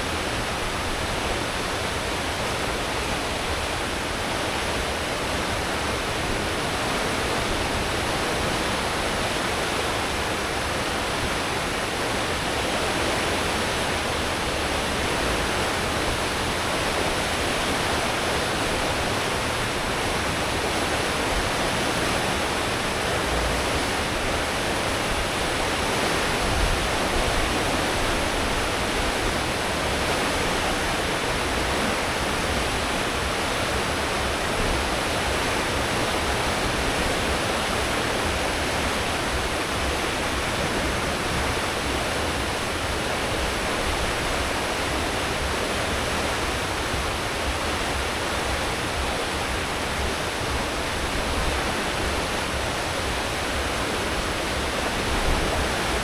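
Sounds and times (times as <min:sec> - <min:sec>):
water rushing in ship wake: 0:00.0 - 0:56.0.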